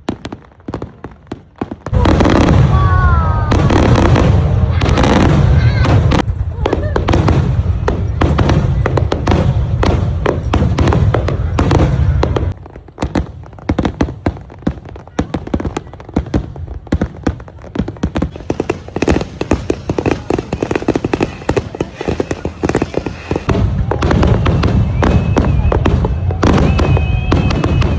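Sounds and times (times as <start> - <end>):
fireworks booming: 0.0 - 27.9
fireworks crackling pops: 0.0 - 27.9.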